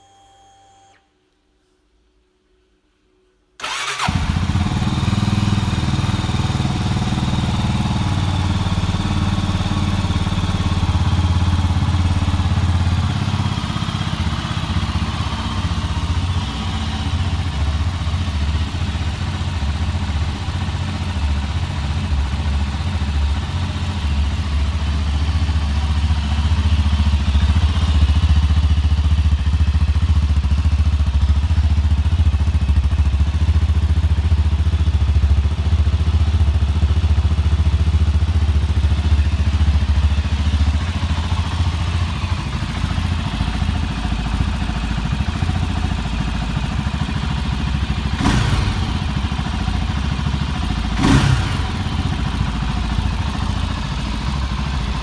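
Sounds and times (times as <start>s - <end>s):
motorcycle engine idling: 3.6s - 55.0s.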